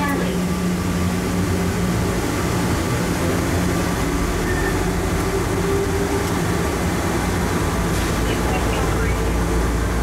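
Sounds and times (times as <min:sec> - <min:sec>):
train rumbling through tunnel: 0:00.0 - 0:10.0.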